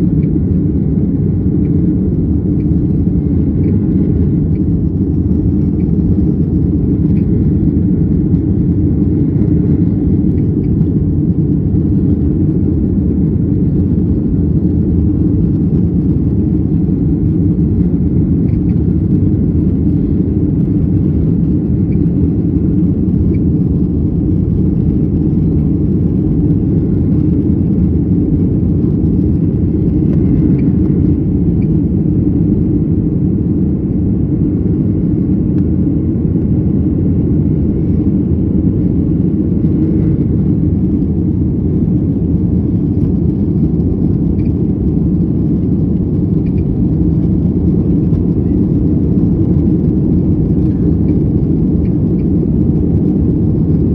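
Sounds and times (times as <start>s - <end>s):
jet engines rumbling in cabin: 0.0s - 53.9s.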